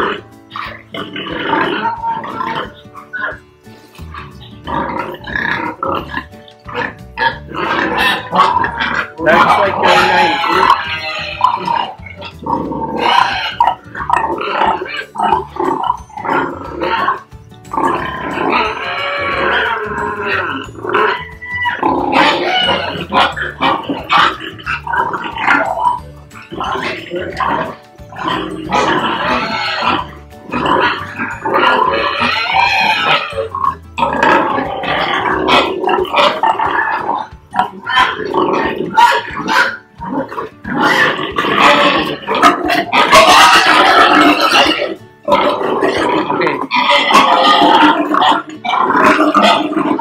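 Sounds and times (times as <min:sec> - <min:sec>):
pig grunting calls: 0:00.0 - 0:03.4, 0:04.0 - 0:50.0
pig squealing: 0:00.0 - 0:50.0.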